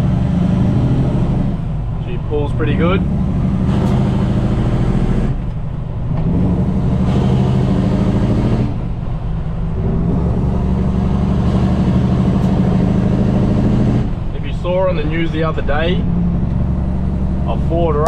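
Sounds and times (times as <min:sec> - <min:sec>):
truck diesel engine pulling hard: 0:00.0 - 0:18.0.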